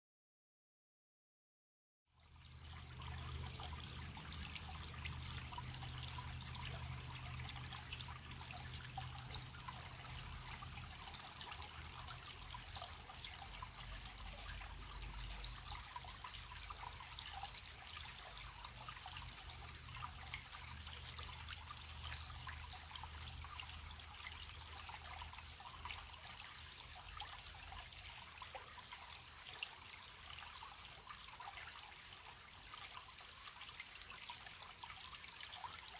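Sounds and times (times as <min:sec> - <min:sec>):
stream babbling: 0:02.2 - 0:35.9
crickets chirping: 0:03.0 - 0:35.3.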